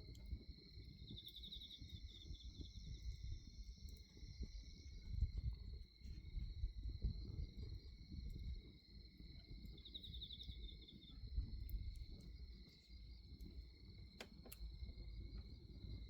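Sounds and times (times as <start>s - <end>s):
crickets singing: 0.0s - 16.0s
bonfire rumbling and crackling: 2.0s - 9.9s, 10.6s - 16.0s.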